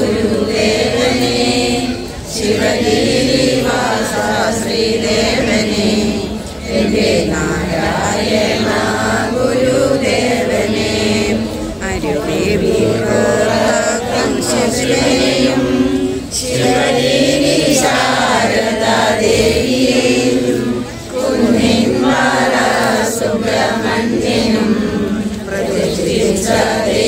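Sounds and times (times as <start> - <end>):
group chanting a prayer: 0.0 - 27.0.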